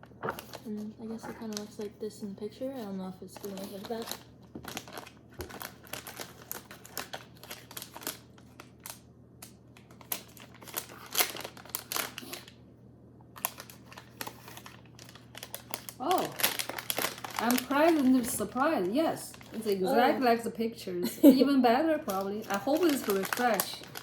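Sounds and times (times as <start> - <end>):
snack packaging crinkling: 0.0 - 1.9, 2.8 - 12.6, 13.3 - 20.2, 21.9 - 24.0.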